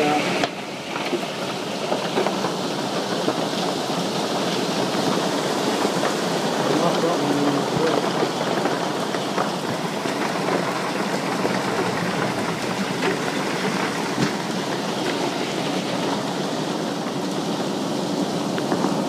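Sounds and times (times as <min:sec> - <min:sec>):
heavy rain pelting: 0:00.0 - 0:19.0
storm wind: 0:00.0 - 0:19.0.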